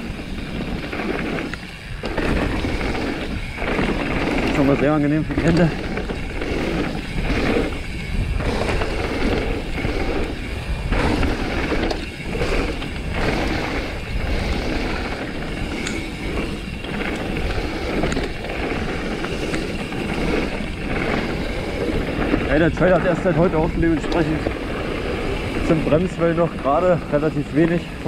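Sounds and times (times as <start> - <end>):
bike rattling: 0.0 - 28.0
bike tyres on dirt and stones: 0.0 - 28.0
wind on microphone: 0.0 - 28.0.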